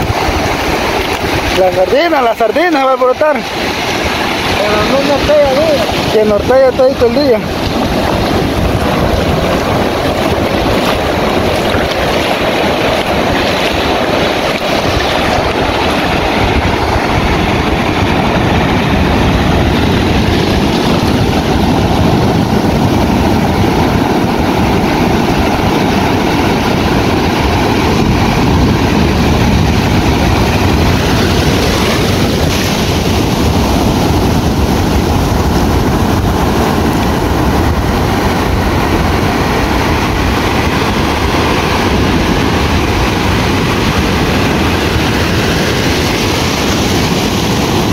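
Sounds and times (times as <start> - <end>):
ocean surf breaking: 0.0 - 47.9
wind rumbling on microphone: 0.0 - 47.9.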